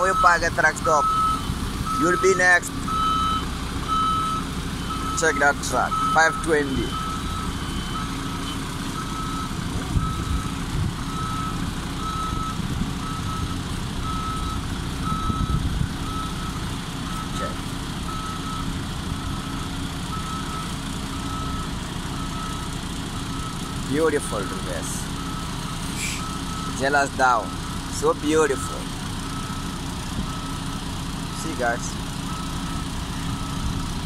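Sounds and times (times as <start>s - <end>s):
diesel engine running: 0.0s - 34.0s
truck reversing alarm beeps: 0.0s - 34.0s.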